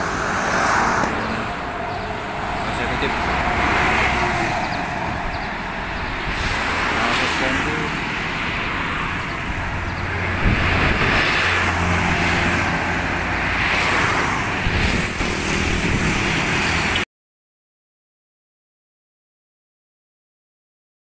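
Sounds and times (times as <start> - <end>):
bus diesel engine droning: 0.0 - 17.0
motorcycles and cars passing: 0.0 - 17.0.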